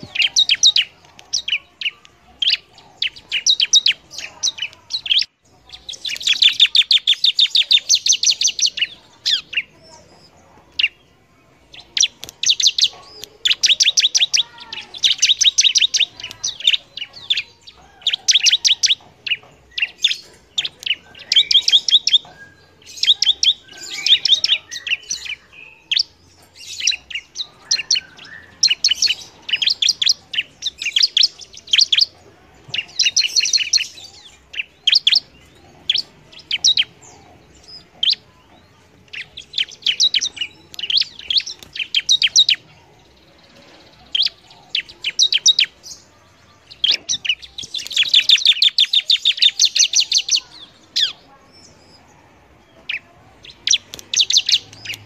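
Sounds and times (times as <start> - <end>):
bird trilling high chirps: 0.0 - 52.0, 52.7 - 55.0.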